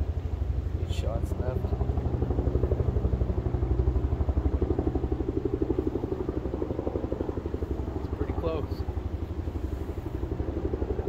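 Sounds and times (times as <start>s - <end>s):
helicopter rotor chopping: 0.0s - 11.0s.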